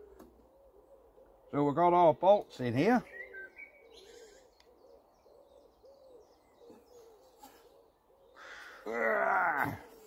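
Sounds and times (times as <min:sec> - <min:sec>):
pigeon cooing: 0:00.0 - 0:01.5, 0:03.2 - 0:10.0.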